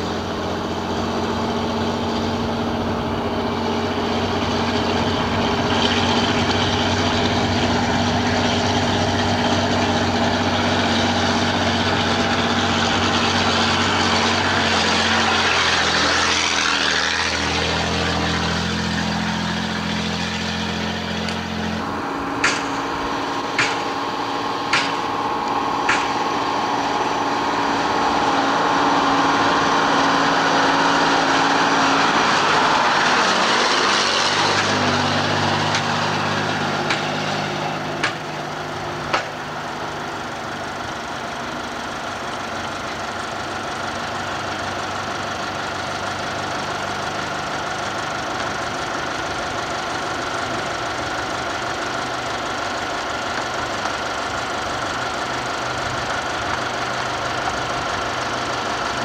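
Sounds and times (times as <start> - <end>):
diesel truck engines droning: 0.0 - 59.0.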